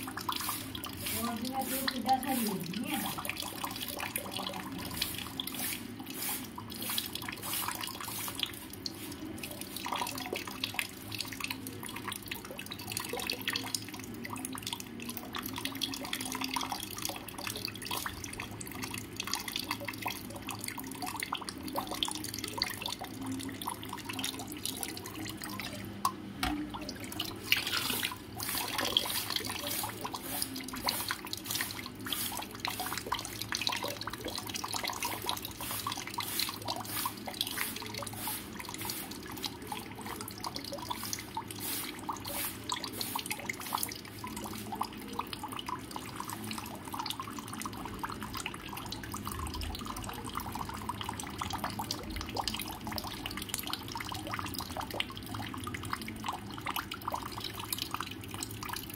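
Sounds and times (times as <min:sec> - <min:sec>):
water trickling and dripping: 0:00.0 - 0:58.9.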